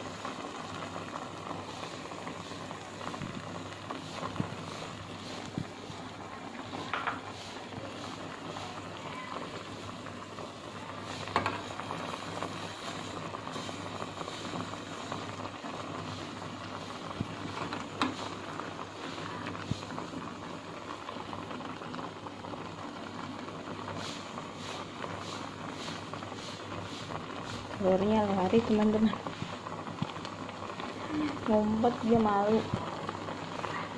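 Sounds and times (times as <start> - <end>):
broth boiling and bubbling: 0.0 - 33.9.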